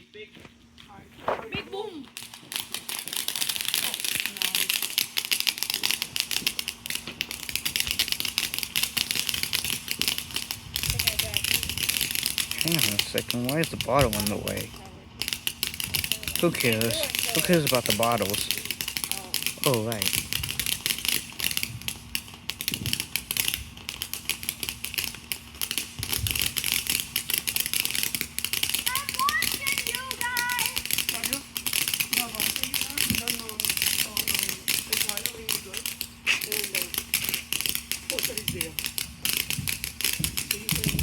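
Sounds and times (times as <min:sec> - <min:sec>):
firework crackling: 0:00.0 - 0:41.0.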